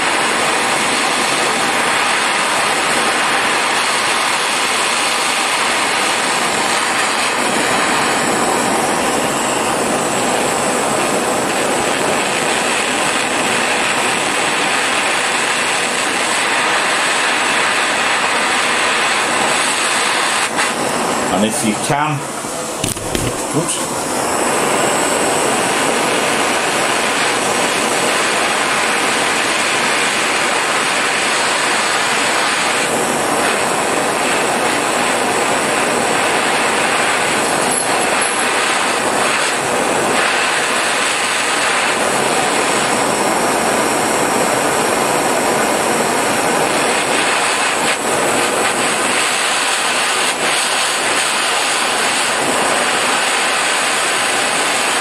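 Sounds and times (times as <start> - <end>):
blowtorch flame hissing: 0.0 - 55.0.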